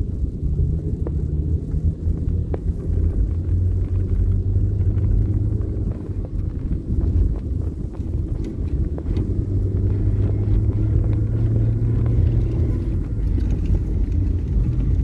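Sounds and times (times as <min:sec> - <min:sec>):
vehicle rumble from on board: 0:00.0 - 0:15.0
wind buffeting microphone: 0:00.0 - 0:15.0.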